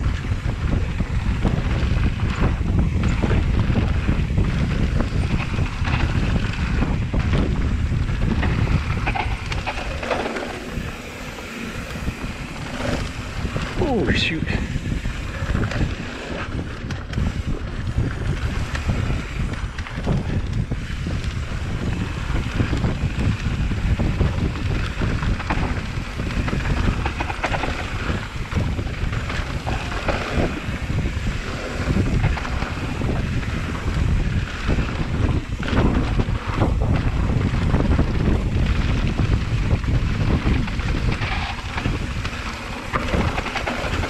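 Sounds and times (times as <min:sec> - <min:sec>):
bike knocks and rattles: 0:00.0 - 0:13.8, 0:14.9 - 0:44.0
wind rushing over microphone: 0:00.0 - 0:44.0.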